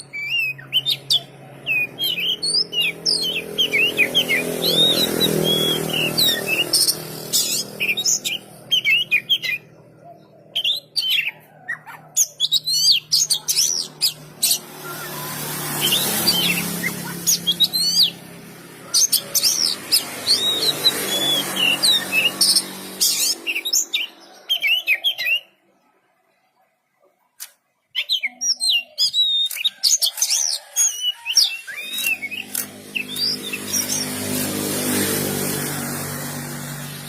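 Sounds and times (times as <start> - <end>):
bird singing whistles and chirps: 0.0 - 18.2, 19.1 - 25.6, 27.9 - 34.2.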